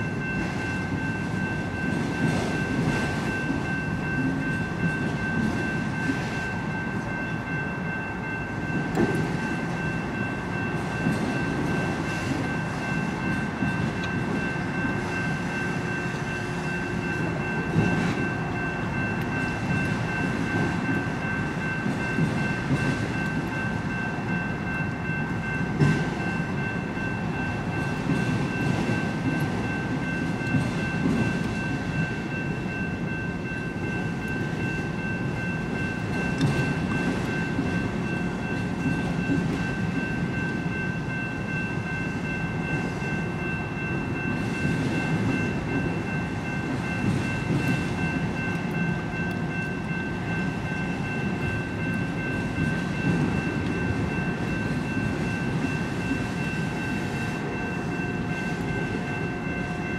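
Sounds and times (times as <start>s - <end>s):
high ringing tone: 0.0s - 59.9s
train wheels rumbling on rail: 0.0s - 59.9s.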